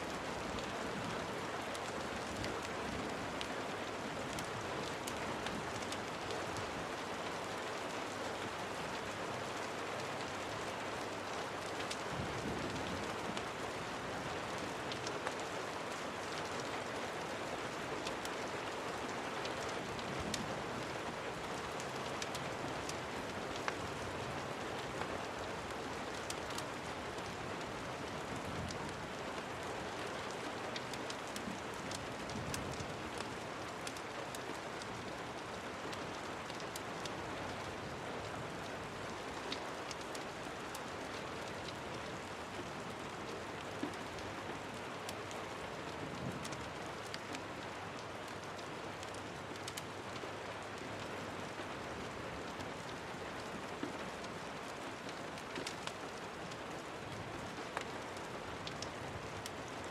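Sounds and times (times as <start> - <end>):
steady rain: 0.0 - 59.9
raindrop ticks: 0.1 - 59.9.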